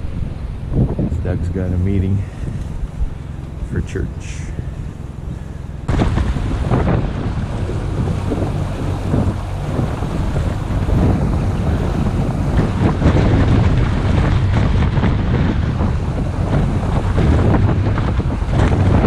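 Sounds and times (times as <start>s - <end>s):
boat motor running: 0.0s - 19.0s
wind buffeting microphone: 0.0s - 19.0s
water rushing: 2.3s - 19.0s.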